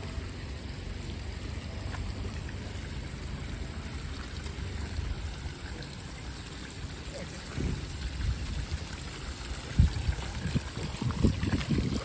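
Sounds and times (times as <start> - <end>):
running spring water: 0.0 - 12.0.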